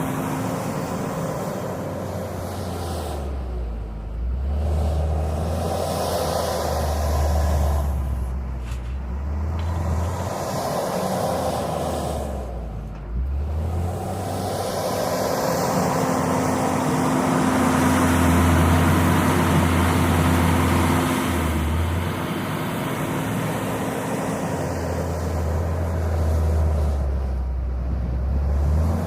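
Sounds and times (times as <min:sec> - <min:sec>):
wheel loader diesel engine drone: 0:00.0 - 0:29.0.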